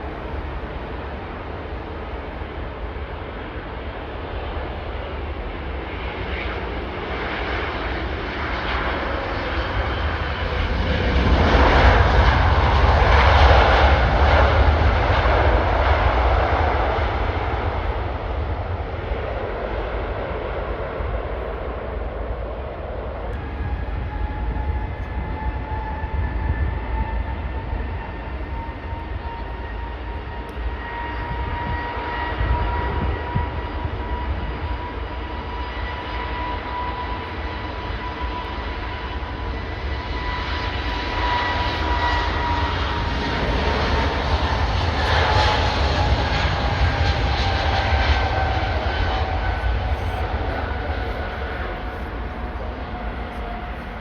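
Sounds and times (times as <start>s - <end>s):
jet engines passing by: 0.0s - 54.0s.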